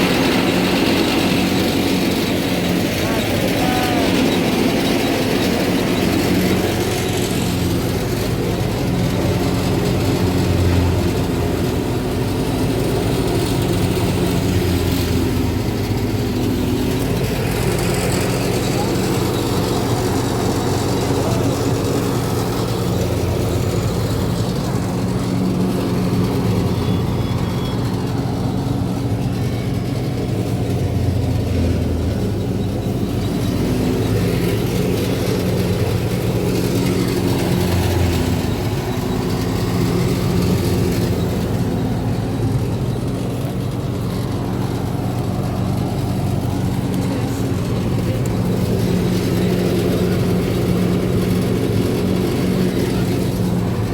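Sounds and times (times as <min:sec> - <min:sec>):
thresher machinery humming: 0:00.0 - 0:53.9
tractor diesel engine running: 0:00.0 - 0:53.9.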